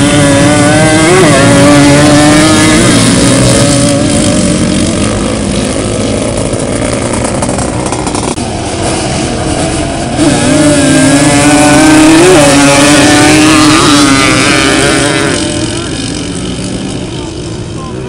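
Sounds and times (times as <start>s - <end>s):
quad engines revving hard: 0.0s - 18.0s.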